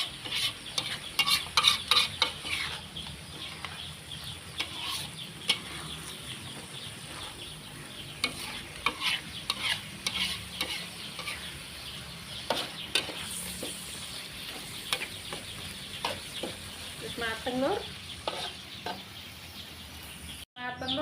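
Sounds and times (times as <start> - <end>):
spatula scraping a pan: 0.0 - 17.2, 18.2 - 19.1
chicken sizzling in a pan: 0.0 - 20.4.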